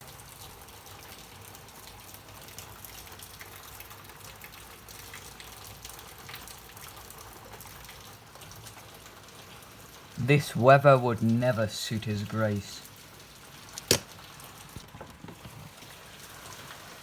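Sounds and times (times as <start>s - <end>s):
steady rain: 0.0s - 17.0s
raindrops ticking: 0.1s - 15.8s.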